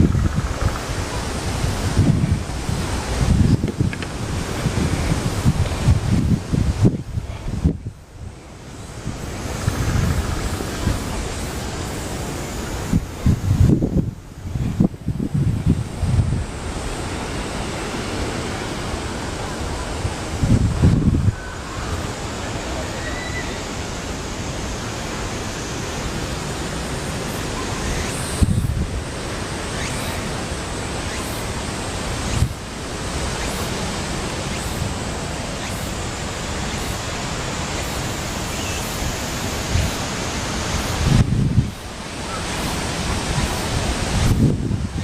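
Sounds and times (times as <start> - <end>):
wind buffeting microphone: 0.0 - 22.6, 25.5 - 36.8, 37.5 - 45.0
strong gusty wind rushing: 0.0 - 45.0.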